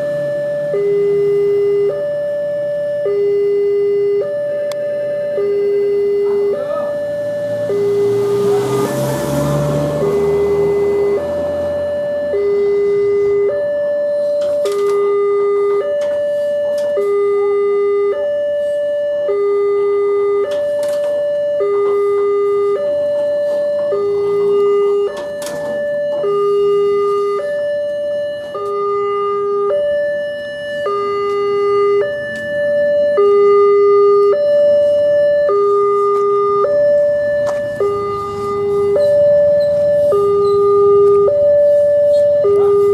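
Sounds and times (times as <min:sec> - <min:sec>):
two-tone level crossing alarm: 0:00.0 - 0:42.9.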